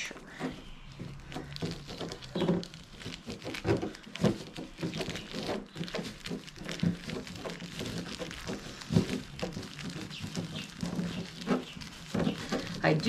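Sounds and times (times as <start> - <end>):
plastic sheeting crinkling: 0.0 - 13.0.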